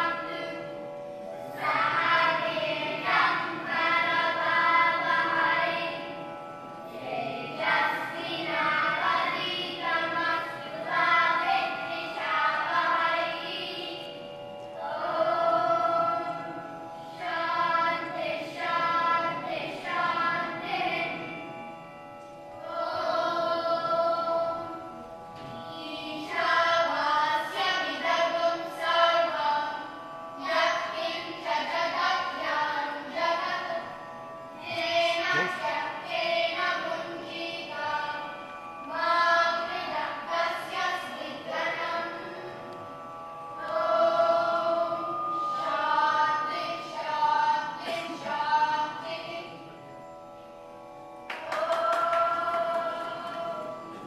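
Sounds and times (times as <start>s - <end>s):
children's choir singing: 0.0s - 21.5s, 22.2s - 33.9s, 34.5s - 42.9s, 43.5s - 49.6s, 51.2s - 54.0s.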